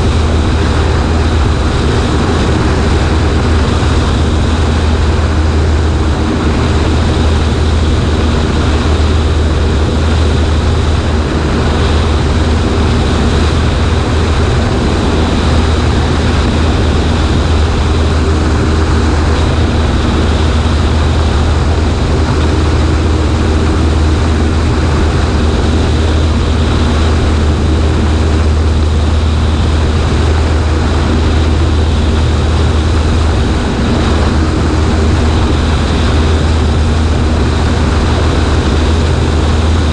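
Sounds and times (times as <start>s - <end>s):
propeller plane engine drone: 0.0s - 39.9s
wind rushing over microphone: 0.0s - 39.9s.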